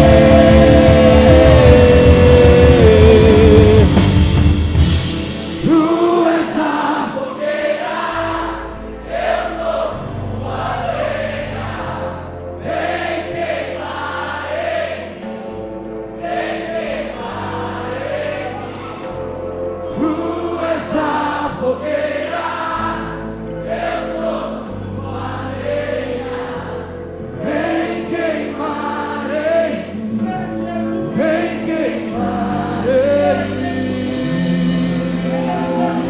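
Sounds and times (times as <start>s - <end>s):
soft keyboard pad: 0.0s - 36.0s
voices singing or humming: 0.0s - 36.0s
worship band final chord: 0.0s - 36.0s.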